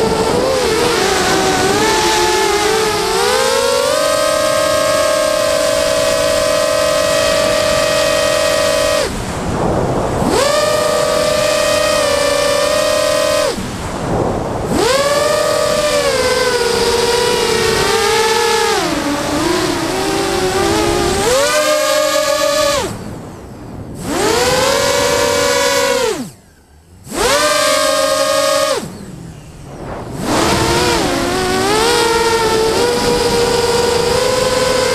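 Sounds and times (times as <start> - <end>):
drone propellers whining: 0.0 - 34.9
rushing wind noise: 0.0 - 34.9.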